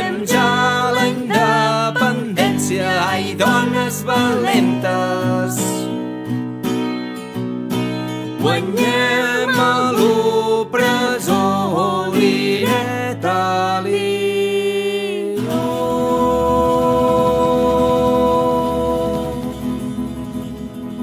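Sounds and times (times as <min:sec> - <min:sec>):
person singing: 0:00.0 - 0:06.0, 0:08.4 - 0:20.6
acoustic guitar strumming: 0:00.0 - 0:21.0.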